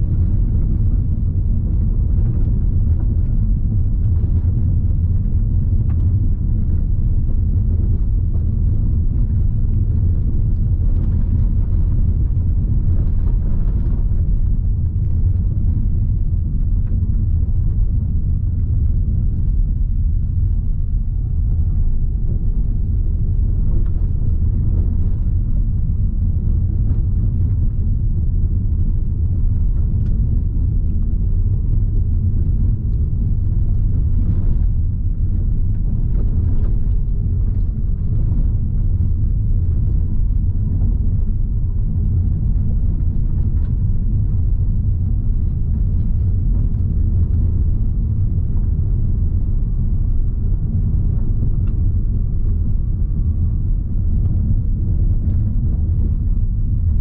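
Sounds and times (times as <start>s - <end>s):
car driving on rough road: 0.0s - 57.0s.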